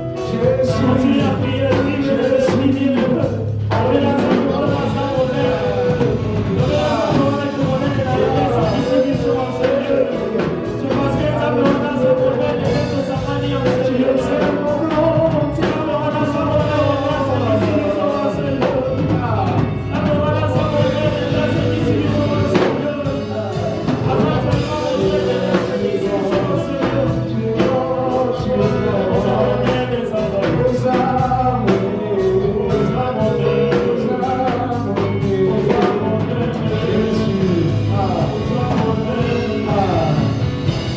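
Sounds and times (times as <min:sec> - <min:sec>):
live band with drums: 0:00.0 - 0:40.9
voices singing gospel: 0:00.0 - 0:40.9.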